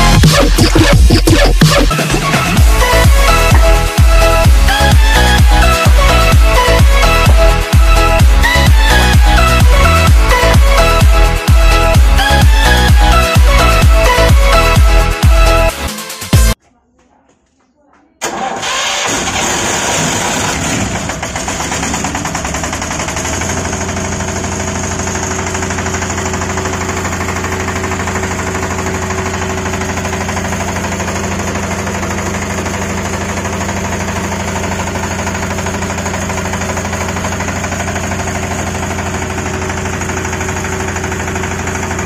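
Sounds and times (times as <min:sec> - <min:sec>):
diesel generator engine running: 0:00.0 - 0:16.6, 0:18.2 - 0:42.0.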